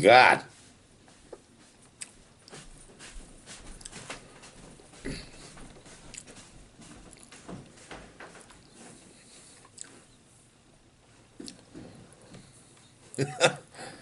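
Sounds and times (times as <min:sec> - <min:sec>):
man chewing food: 0:01.0 - 0:10.3, 0:11.2 - 0:13.3.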